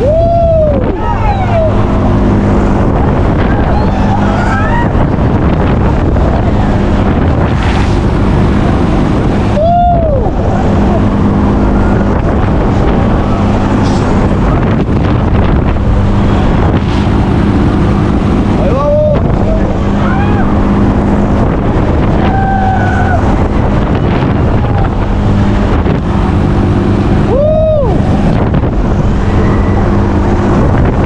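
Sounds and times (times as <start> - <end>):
ride machine hum: 0.0 - 31.0
wind noise on microphone: 0.0 - 31.0.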